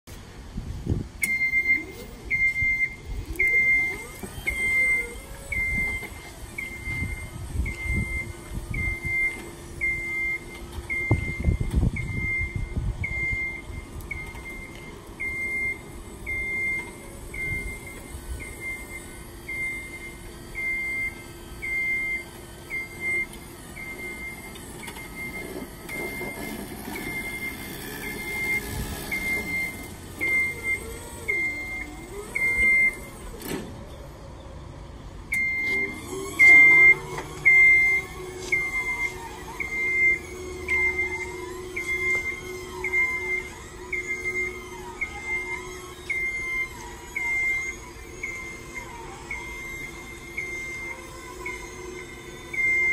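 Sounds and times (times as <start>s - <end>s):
lift motion alarm beeping: 1.2s - 34.5s, 35.2s - 52.9s.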